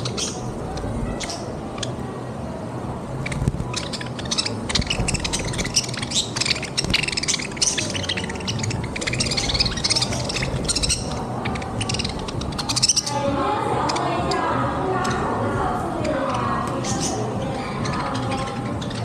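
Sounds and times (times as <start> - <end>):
budgerigars chattering: 0.0 - 2.0, 3.2 - 19.0.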